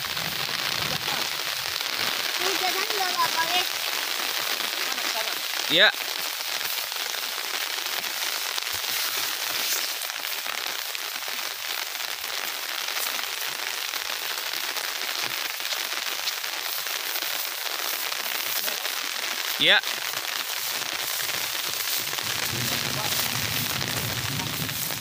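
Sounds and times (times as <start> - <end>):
rain falling on grass and leaves: 0.0 - 25.0.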